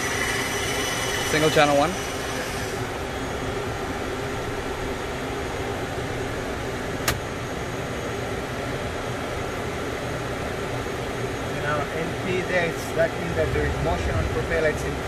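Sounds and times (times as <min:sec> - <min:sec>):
cockpit air conditioning: 0:00.0 - 0:15.0
turboprop engine whir: 0:00.0 - 0:15.0.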